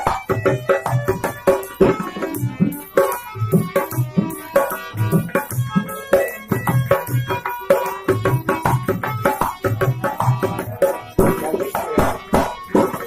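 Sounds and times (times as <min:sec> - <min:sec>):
dholak drum beating: 0:00.0 - 0:13.0
harmonium chords: 0:00.0 - 0:13.0.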